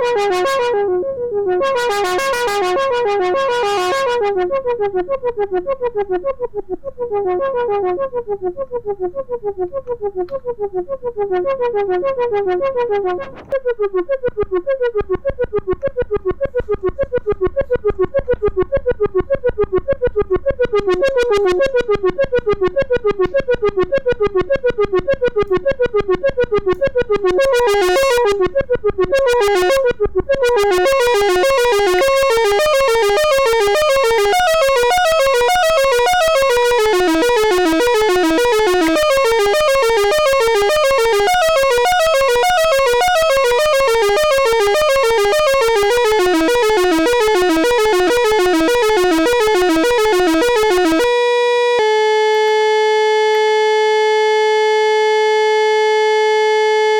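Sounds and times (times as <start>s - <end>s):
synthesizer arpeggio: 0.0s - 56.9s
synthesizer held note: 0.0s - 56.9s.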